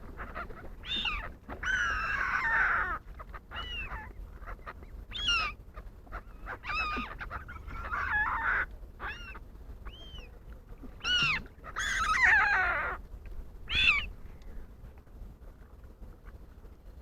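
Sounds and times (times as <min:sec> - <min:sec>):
pond birds calling: 0:00.0 - 0:14.9.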